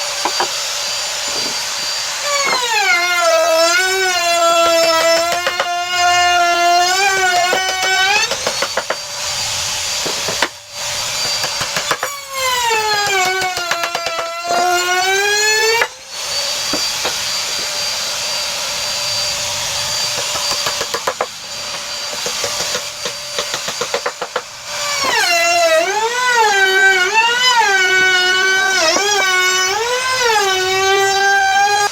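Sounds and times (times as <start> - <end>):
power tool running on wood: 0.0 - 31.9.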